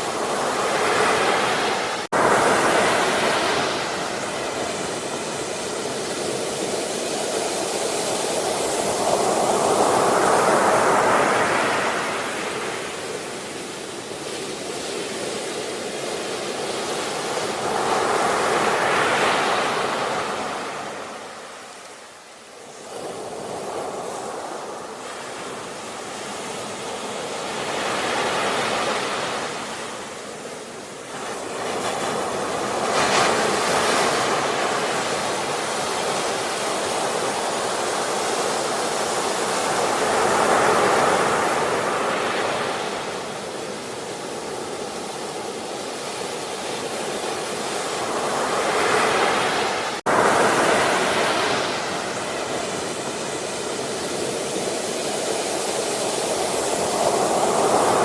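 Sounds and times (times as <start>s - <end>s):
sea waves breaking ashore: 0.0s - 58.0s.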